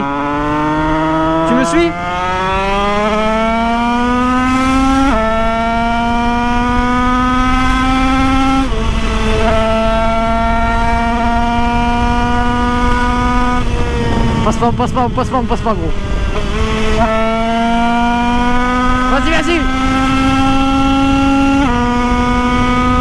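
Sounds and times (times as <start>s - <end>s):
motorbike engine revving: 0.0s - 23.0s
wind rush: 4.1s - 23.0s.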